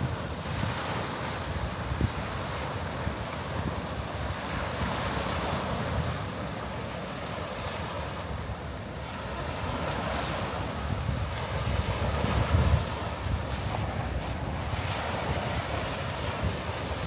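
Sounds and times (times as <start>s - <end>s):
waves breaking on shelly beach: 0.0s - 17.0s
wind buffeting microphone: 0.0s - 17.0s.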